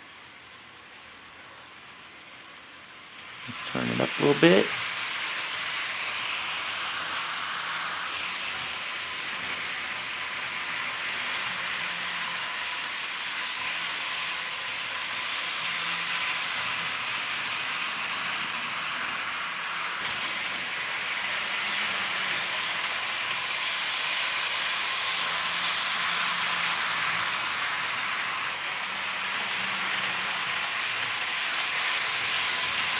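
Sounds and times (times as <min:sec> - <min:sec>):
wheels rolling on rails: 0:00.0 - 0:32.9
model train motor whirring: 0:00.2 - 0:32.9.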